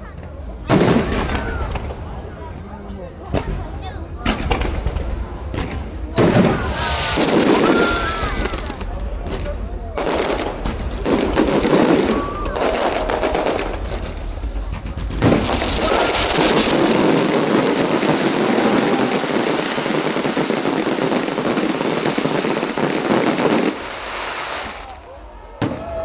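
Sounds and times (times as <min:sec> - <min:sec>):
loud firework burst: 0:00.2 - 0:02.4, 0:03.4 - 0:26.0
fireworks crackling and popping: 0:03.2 - 0:26.0.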